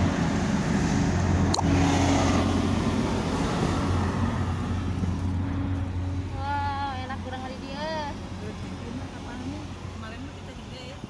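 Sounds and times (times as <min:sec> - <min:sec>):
ship engine humming: 0:00.0 - 0:11.0
water noise: 0:00.0 - 0:11.0
wind: 0:00.0 - 0:11.0.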